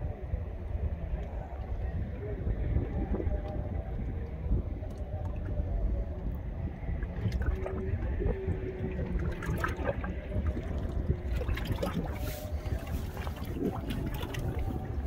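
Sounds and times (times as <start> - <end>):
steady low rumble: 0.0 - 15.0
water lapping against boat hull: 1.0 - 15.0.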